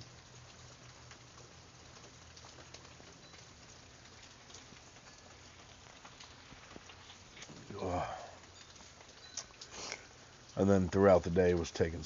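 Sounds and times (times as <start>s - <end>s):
drips ticking: 0.0s - 12.0s
rain pattering: 0.0s - 12.0s.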